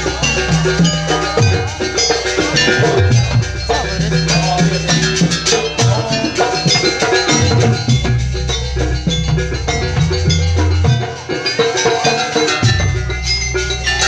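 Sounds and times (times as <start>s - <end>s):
sustained low tones: 0.0s - 11.4s
rhythmic drumming: 0.0s - 14.0s
ringing tuned metal percussion: 0.0s - 14.0s.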